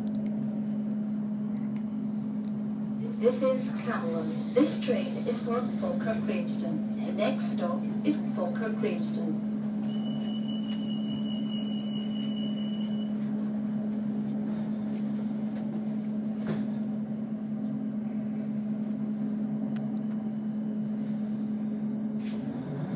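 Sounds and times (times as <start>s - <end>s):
train equipment humming: 0.0s - 22.9s.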